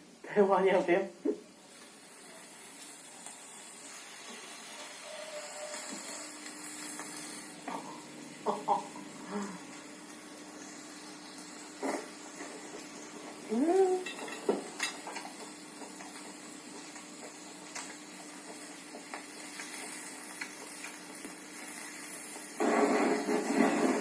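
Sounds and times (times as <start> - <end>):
meat sizzling on a grill: 0.3 - 24.0.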